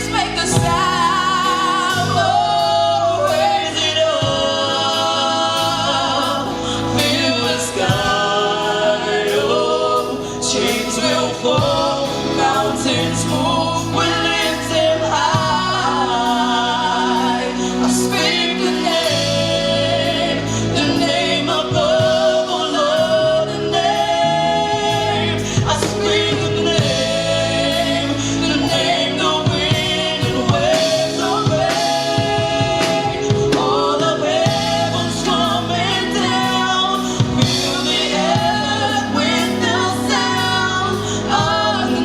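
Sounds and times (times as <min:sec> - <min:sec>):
instrumental accompaniment: 0:00.0 - 0:42.0
singers and choir: 0:00.0 - 0:42.0.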